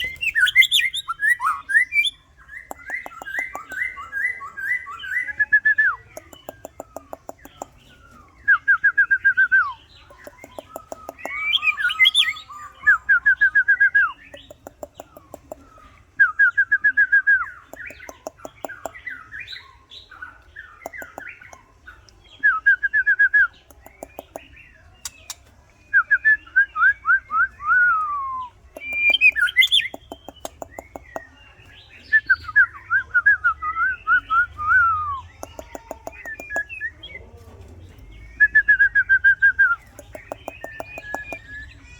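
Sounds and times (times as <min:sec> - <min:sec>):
bird whistling song: 0:00.0 - 0:21.6, 0:22.3 - 0:37.2, 0:37.9 - 0:41.9.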